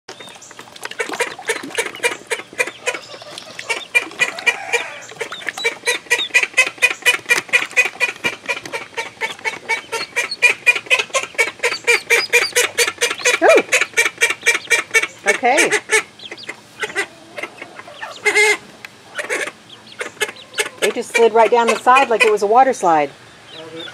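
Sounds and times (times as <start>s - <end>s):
ducks quacking rapidly: 1.0s - 23.9s.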